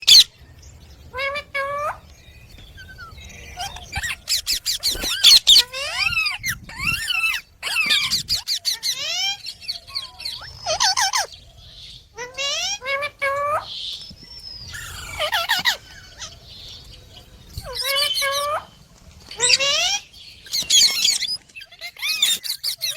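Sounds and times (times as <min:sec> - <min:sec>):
parakeet calling and chattering: 0:00.0 - 0:00.4, 0:01.0 - 0:22.9.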